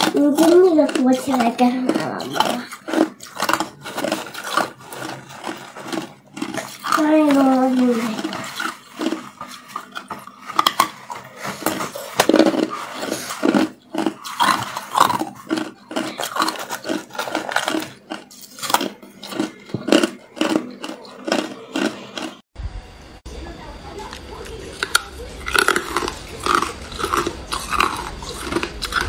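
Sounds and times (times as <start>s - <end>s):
ice being chewed: 0.0s - 22.4s, 24.1s - 29.0s.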